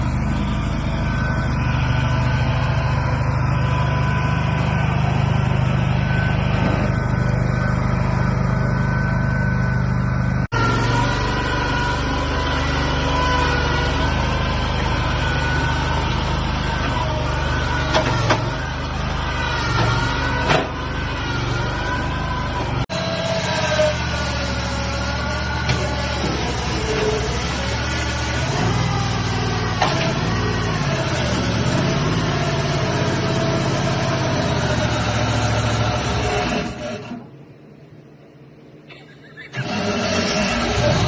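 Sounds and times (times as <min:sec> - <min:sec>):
heavy engine running: 0:00.0 - 0:41.0.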